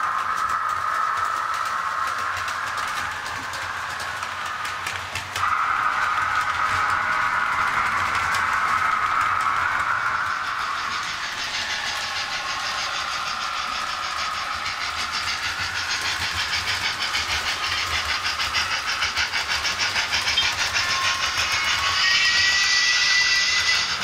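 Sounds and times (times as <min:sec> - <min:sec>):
model train wheels clicking: 0:00.0 - 0:24.0
high motor whine: 0:01.8 - 0:24.0.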